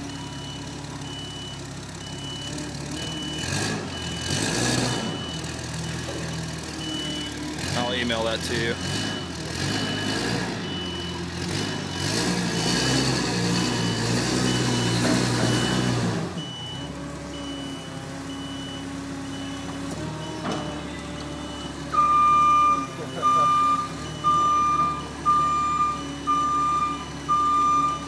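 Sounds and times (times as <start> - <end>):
engine running: 0.0 - 28.0
reversing alarm beeping: 0.1 - 28.0.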